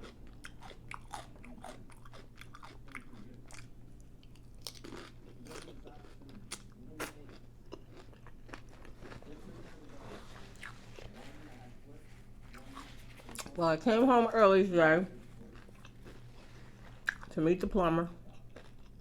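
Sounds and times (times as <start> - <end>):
crunchy chewing and biting: 0.0 - 11.7, 12.3 - 13.6, 15.2 - 17.3, 18.2 - 19.0.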